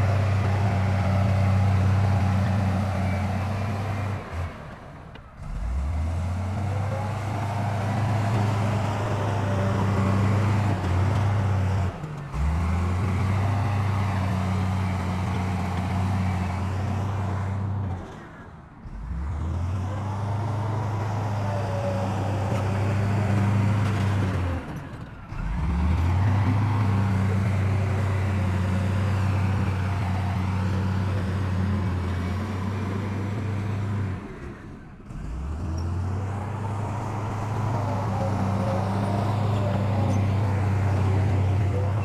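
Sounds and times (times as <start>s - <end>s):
diesel machinery engines droning: 0.0s - 42.0s.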